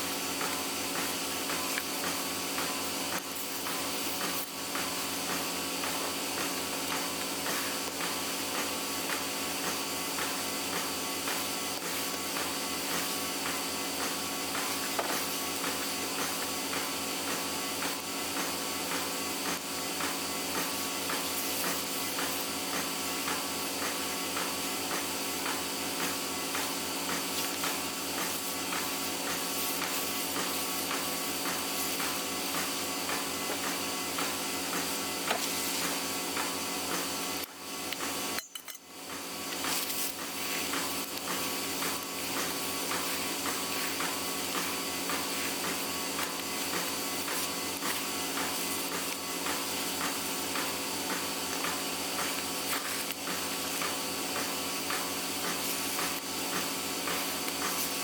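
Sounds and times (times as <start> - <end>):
machine running with pulsing beat: 0.0 - 58.0.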